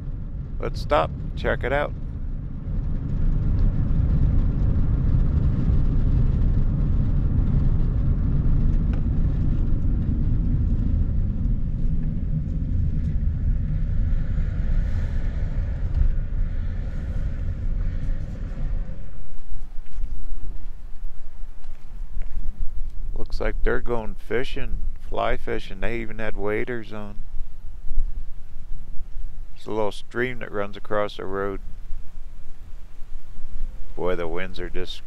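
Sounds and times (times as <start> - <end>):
vehicle road and wind noise: 0.0 - 35.0.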